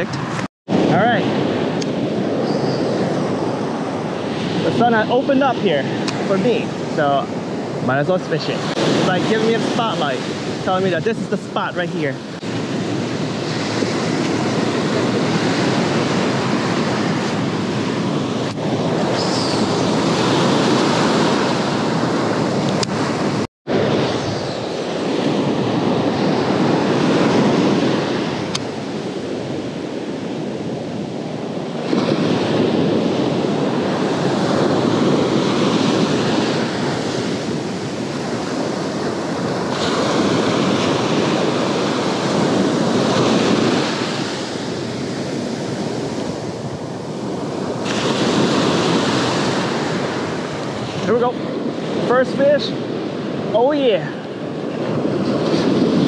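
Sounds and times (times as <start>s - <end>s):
ocean surf breaking on beach: 0.0s - 56.0s
wind buffeting microphone: 0.0s - 56.0s.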